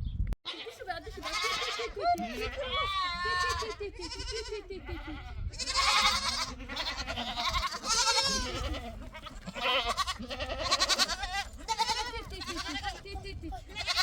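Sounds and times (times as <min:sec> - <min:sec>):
sheep bleating: 0:00.5 - 0:14.0.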